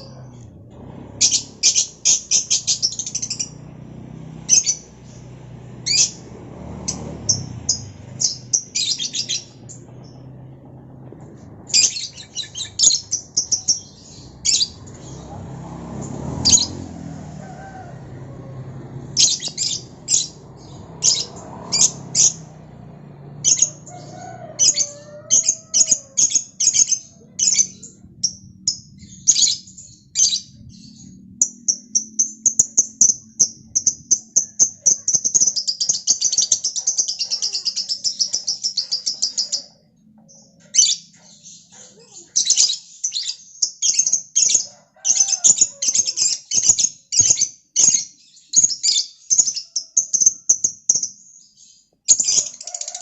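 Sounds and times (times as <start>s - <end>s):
lovebird chirping and trilling: 1.2s - 3.7s, 4.4s - 10.4s, 11.2s - 15.4s, 19.2s - 22.6s, 23.4s - 53.0s.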